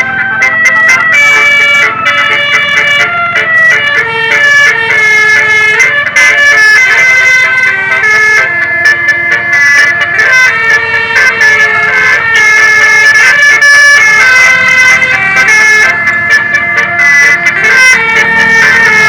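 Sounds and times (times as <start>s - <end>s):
bus musical horn tune: 0.0s - 19.0s.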